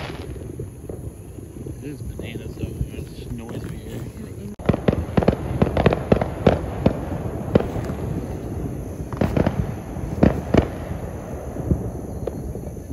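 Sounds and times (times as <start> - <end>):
fireworks bangs and pops: 0.0 - 12.9
outdoor background noise: 0.0 - 12.9.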